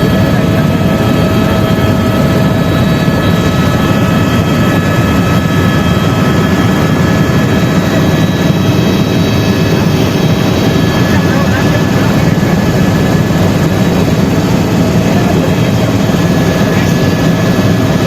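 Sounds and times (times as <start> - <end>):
helicopter rotor and engine: 0.0 - 18.0
turbine whine: 0.0 - 18.0.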